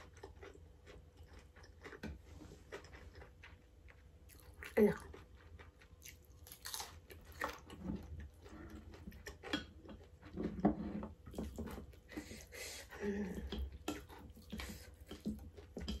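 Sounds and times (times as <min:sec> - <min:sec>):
wet chewing sounds: 0:00.0 - 0:16.0.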